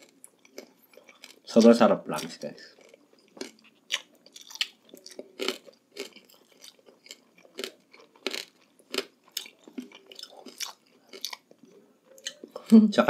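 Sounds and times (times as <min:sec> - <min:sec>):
crunchy food chewing: 0:00.0 - 0:12.6.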